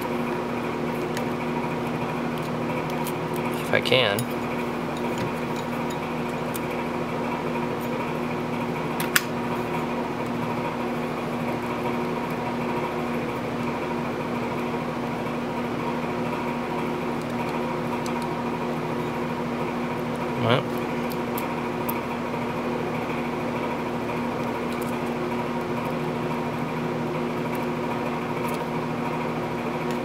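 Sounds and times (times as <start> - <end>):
fan appliance humming: 0.0 - 30.0.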